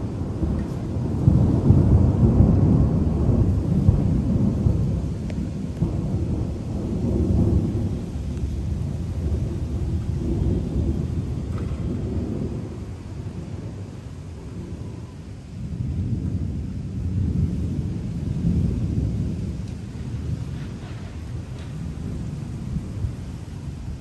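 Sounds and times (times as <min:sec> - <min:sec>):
thunder rumbling: 0:00.0 - 0:24.0.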